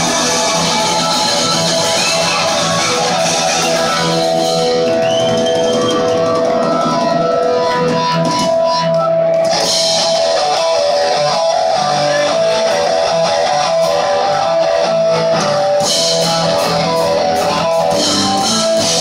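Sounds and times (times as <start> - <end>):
drum kit: 0.0 - 19.0
sustained electric guitars: 0.0 - 19.0.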